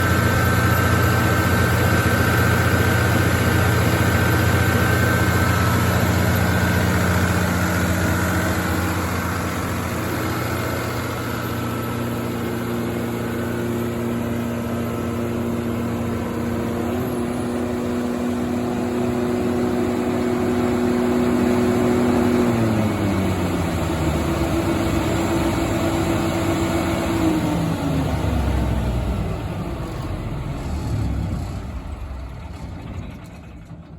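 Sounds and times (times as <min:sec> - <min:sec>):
diesel generator running: 0:00.0 - 0:33.9.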